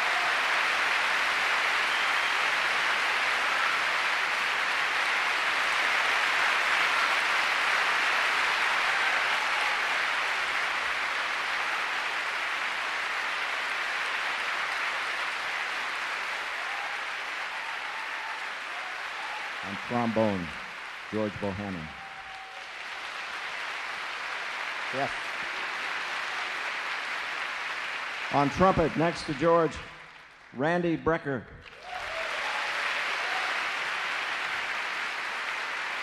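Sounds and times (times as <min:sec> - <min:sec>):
audience applauding: 0:00.0 - 0:30.8, 0:31.6 - 0:36.0.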